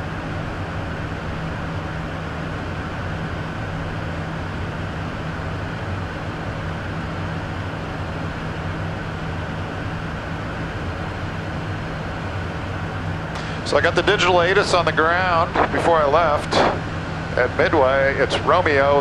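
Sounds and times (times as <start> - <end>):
airflow noise in jet cabin: 0.0 - 19.0
low steady hum: 0.0 - 19.0.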